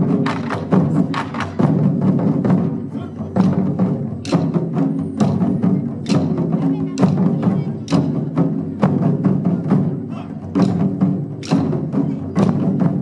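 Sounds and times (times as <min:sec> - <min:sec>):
taiko drums in a driving rhythm: 0:00.0 - 0:13.0.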